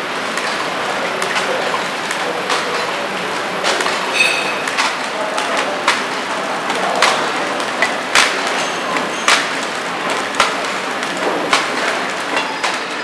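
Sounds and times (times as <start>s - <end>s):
packing machine running: 0.0s - 13.0s.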